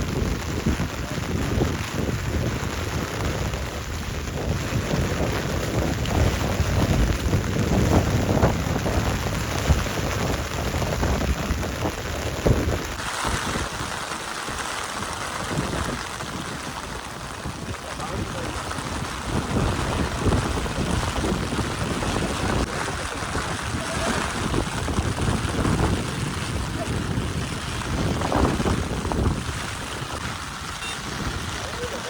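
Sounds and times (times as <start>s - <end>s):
gusting wind: 0.0s - 32.0s
heavy rain: 0.0s - 32.0s.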